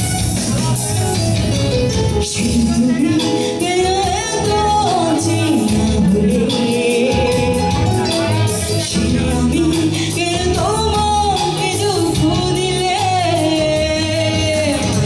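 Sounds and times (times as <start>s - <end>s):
band with guitar and keyboard: 0.0s - 15.0s
woman singing into a microphone: 2.1s - 15.0s.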